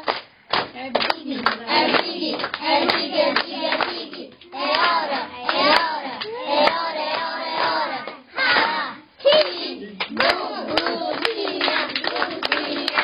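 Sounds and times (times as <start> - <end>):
hand claps: 0.0 - 13.0
group singing: 1.0 - 13.0.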